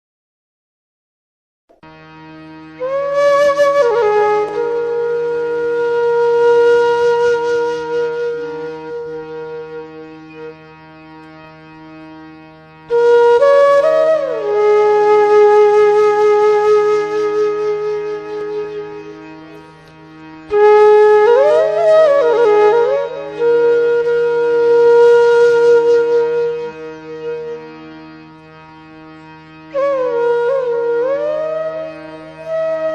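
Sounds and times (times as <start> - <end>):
steady drone: 1.8 - 32.9
flute-like wind melody: 2.5 - 10.8, 12.8 - 29.0, 29.6 - 32.9.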